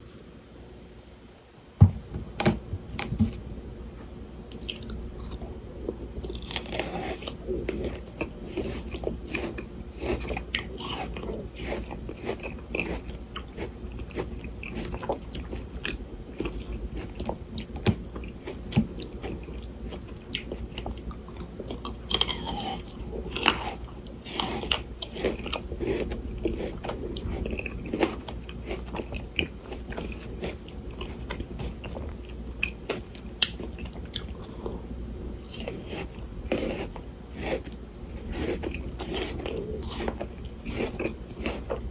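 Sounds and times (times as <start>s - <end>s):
crunchy biting and chewing: 4.5s - 41.9s.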